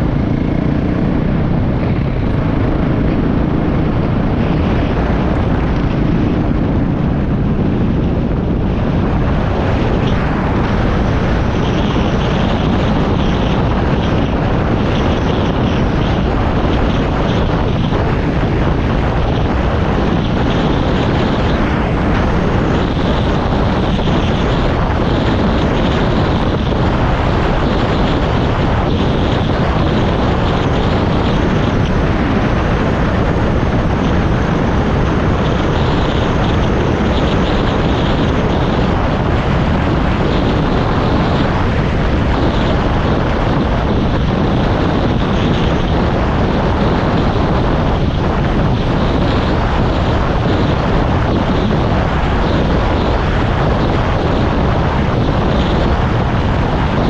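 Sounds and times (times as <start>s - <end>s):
engine and road noise: 0.0s - 57.0s
wind buffeting microphone: 0.0s - 57.0s.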